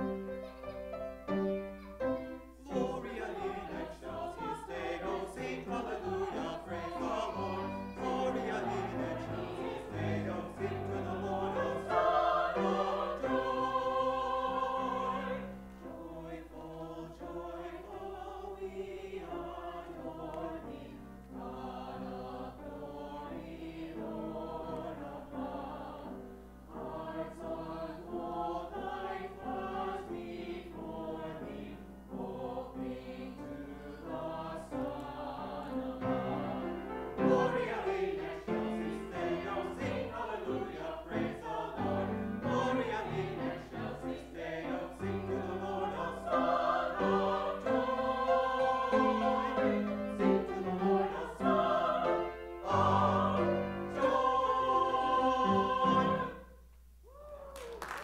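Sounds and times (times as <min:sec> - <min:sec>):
grand piano accompaniment: 0:00.0 - 0:56.5
choir singing: 0:00.0 - 0:56.6.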